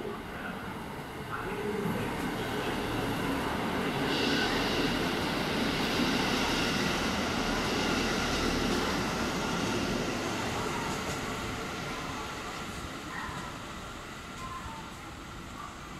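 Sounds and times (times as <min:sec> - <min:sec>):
diesel railcar passing: 0:00.0 - 0:15.9
train rolling noise: 0:00.0 - 0:15.9.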